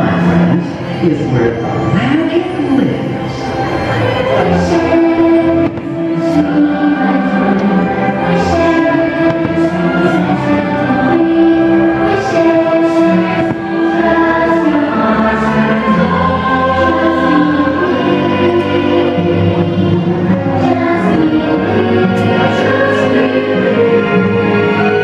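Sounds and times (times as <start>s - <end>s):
choir singing long notes: 0.0s - 25.0s
orchestral music over loudspeakers: 0.0s - 25.0s.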